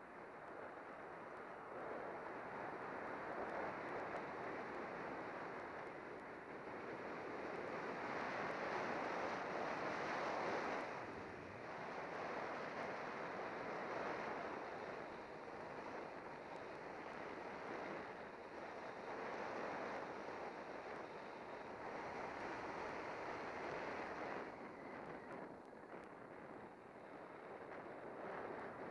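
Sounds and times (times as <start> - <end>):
wind rushing over microphone: 0.0 - 28.9.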